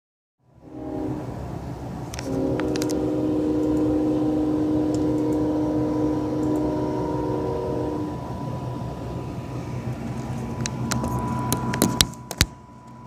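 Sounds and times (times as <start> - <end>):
train rumbling past: 0.4 - 13.0
locomotive air horn: 0.5 - 13.0.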